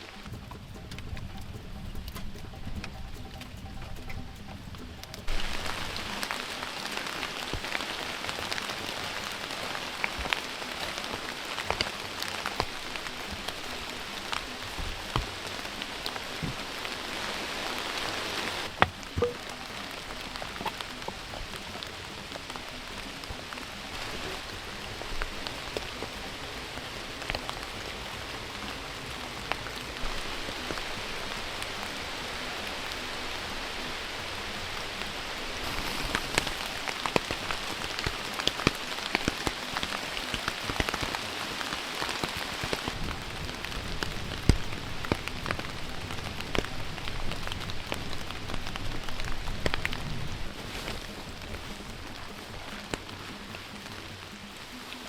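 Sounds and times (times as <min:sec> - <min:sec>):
raindrops ticking close by: 0:00.0 - 0:55.0
steady rain falling: 0:00.0 - 0:55.0.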